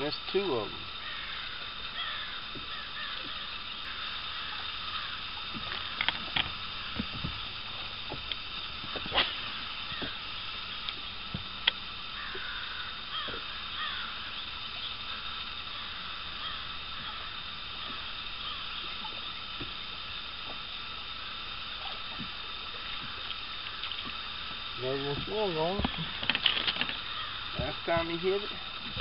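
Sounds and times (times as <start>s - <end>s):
faint high hum: 0.0s - 29.0s
birds calling: 0.9s - 8.2s, 9.0s - 20.2s, 22.8s - 28.5s.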